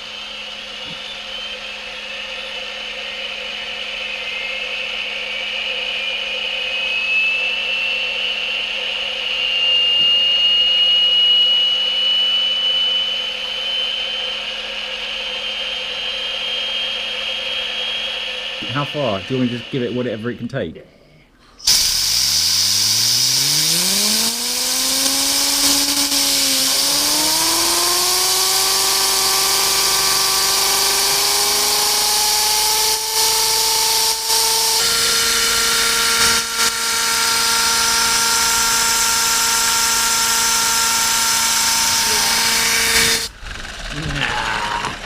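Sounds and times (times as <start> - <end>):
model jet turbine whine: 0.0 - 45.0.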